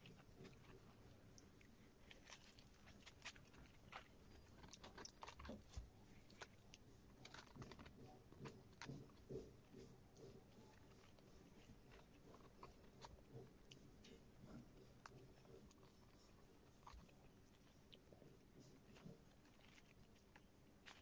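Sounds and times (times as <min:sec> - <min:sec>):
faint chewing and crunching: 0:00.0 - 0:21.0.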